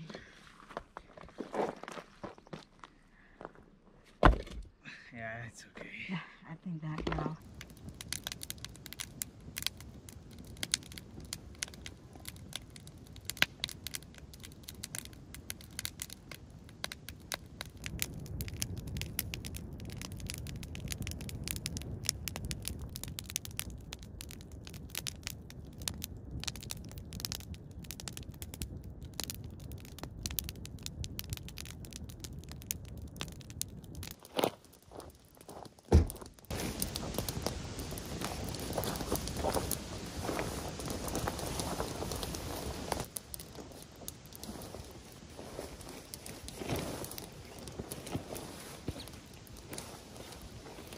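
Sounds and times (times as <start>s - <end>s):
campfire crackling and popping: 6.8s - 50.9s.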